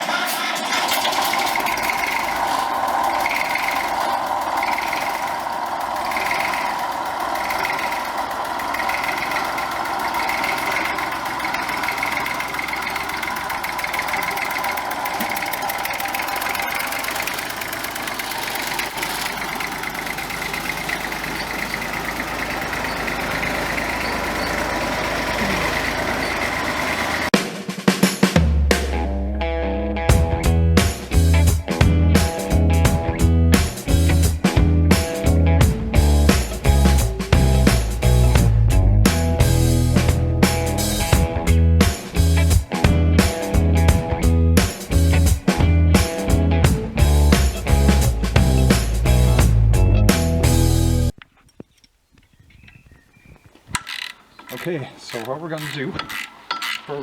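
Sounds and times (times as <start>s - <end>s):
diesel tractor engine idling: 0.0s - 27.4s, 30.4s - 51.2s, 53.5s - 57.0s.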